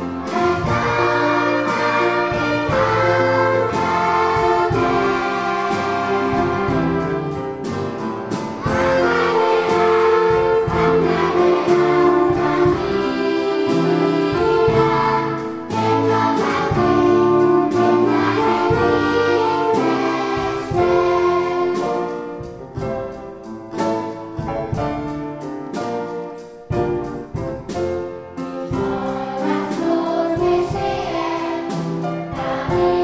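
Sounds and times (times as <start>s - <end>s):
children's choir singing: 0.0s - 23.2s, 27.8s - 33.0s
instrumental accompaniment: 0.0s - 33.0s.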